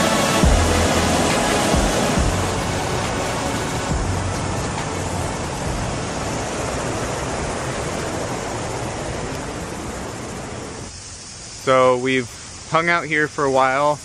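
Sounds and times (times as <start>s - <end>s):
waterfall and rapids roaring: 0.0s - 14.0s.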